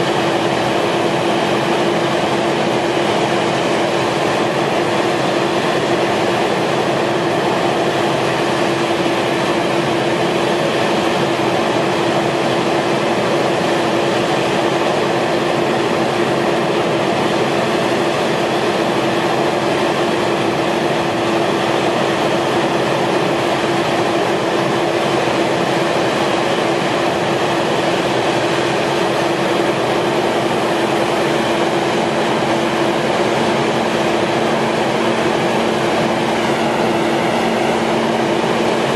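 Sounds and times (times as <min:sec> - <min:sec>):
drill rig running: 0:00.0 - 0:38.9.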